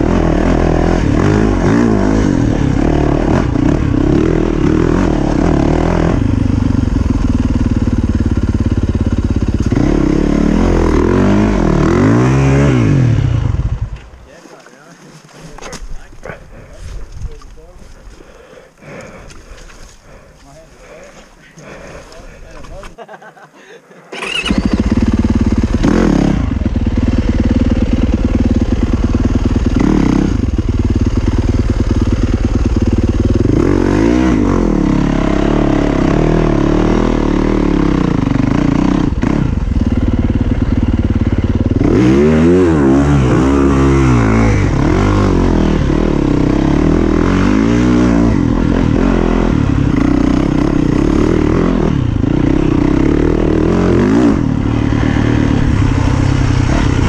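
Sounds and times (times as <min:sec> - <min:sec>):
motorcycle engine revving: 0:00.0 - 0:14.2, 0:24.1 - 0:57.0.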